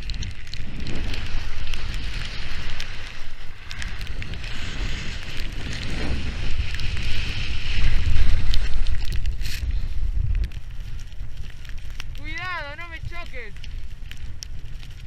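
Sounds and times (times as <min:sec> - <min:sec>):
skis scraping on snow: 0:00.0 - 0:14.0
wind buffeting microphone: 0:00.0 - 0:15.0.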